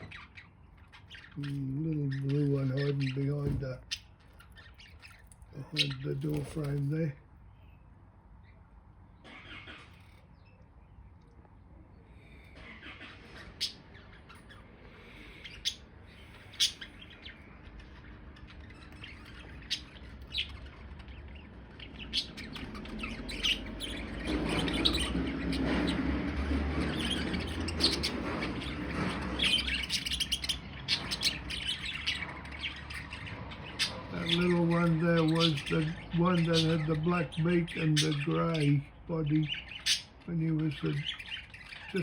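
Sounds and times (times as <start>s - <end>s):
budgerigars chirping and chattering: 0.0s - 10.6s, 12.0s - 42.0s.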